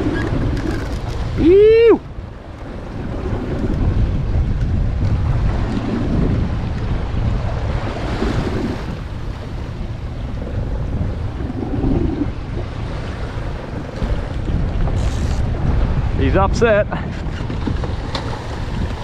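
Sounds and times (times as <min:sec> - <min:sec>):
choppy sea washing around boat: 0:00.0 - 0:19.0
wind buffeting the microphone: 0:00.0 - 0:19.0.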